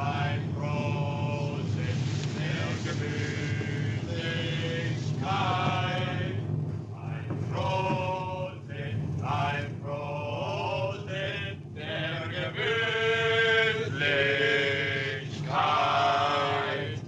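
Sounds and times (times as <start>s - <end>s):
men singing together: 0.0s - 17.0s
steady low hum: 0.0s - 17.0s.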